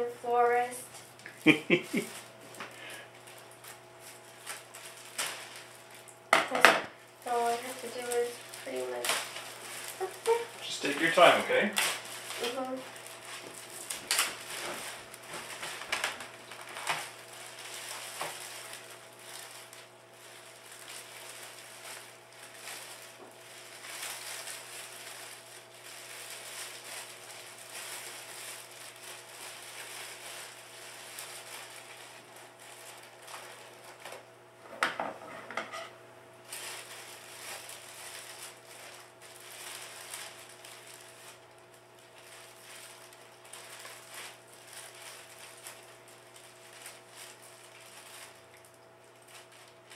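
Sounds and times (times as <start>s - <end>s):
cellophane crinkling: 0.4s - 34.3s, 36.4s - 49.9s.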